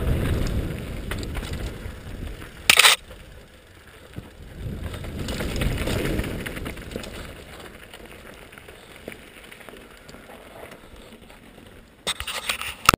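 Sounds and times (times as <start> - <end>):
tyres crunching gravel: 0.0 - 12.8
bike clicks: 0.0 - 12.9
bike tyres rattling over rocks: 0.0 - 12.9.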